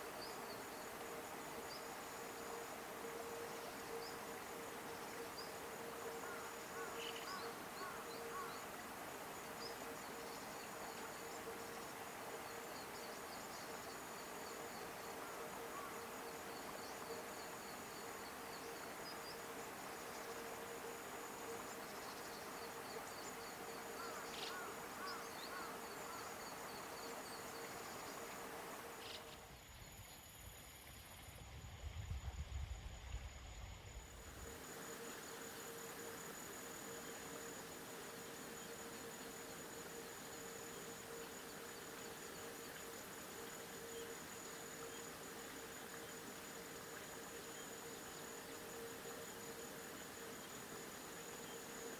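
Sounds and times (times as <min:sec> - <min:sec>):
insects trilling: 0:00.0 - 0:51.9.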